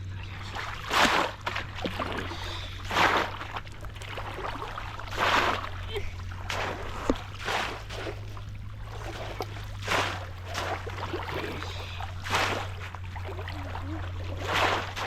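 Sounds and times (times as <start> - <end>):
water splashing: 0.1 - 15.0.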